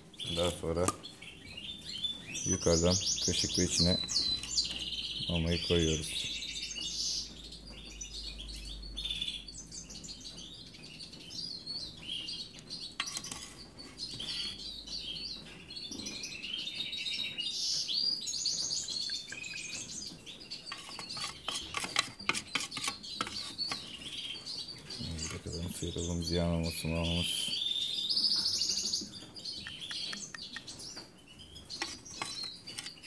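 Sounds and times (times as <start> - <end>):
finches chirping and twittering: 0.0 - 33.0.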